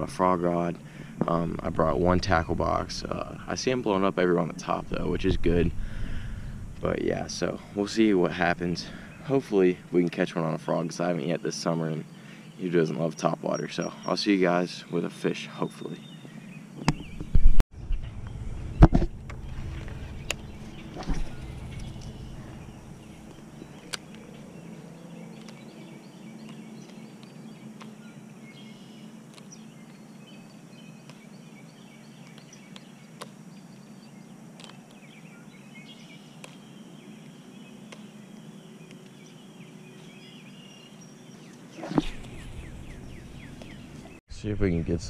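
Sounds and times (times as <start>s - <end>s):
birds chirping faintly: 0.0s - 45.0s
steady low hum: 0.0s - 45.0s.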